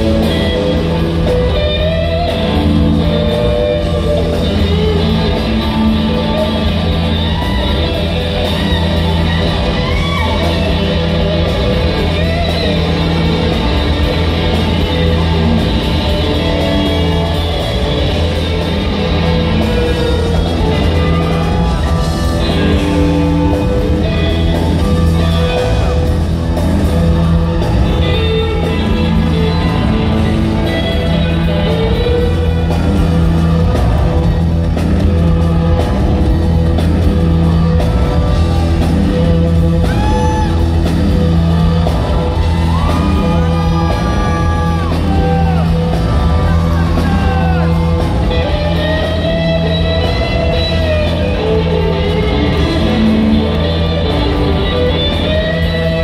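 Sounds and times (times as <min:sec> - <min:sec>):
bass line: 0:00.0 - 0:56.0
drums: 0:00.0 - 0:56.0
electric guitar: 0:00.0 - 0:56.0.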